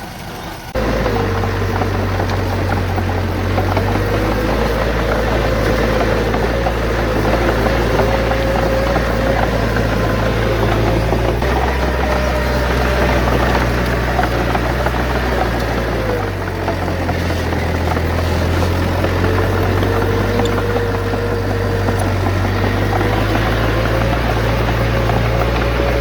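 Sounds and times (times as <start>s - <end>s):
bulldozer diesel engine: 0.0s - 26.0s.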